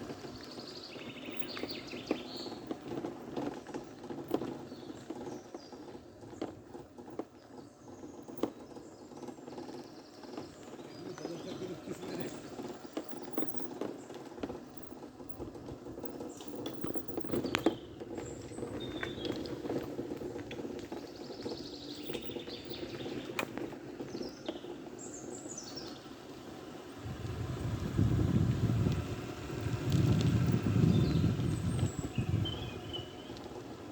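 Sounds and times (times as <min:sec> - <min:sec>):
birds chirping: 0:00.0 - 0:06.6, 0:07.3 - 0:33.9
light pattering and clicking: 0:00.0 - 0:26.3, 0:29.6 - 0:33.9.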